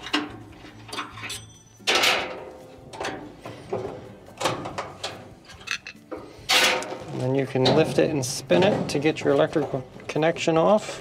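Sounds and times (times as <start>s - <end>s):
metal clips clattering and scraping: 0.0s - 10.3s.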